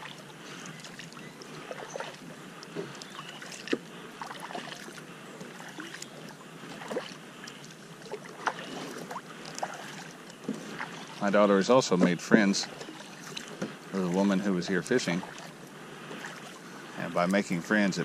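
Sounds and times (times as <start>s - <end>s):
paddle splashing water: 0.0s - 18.0s.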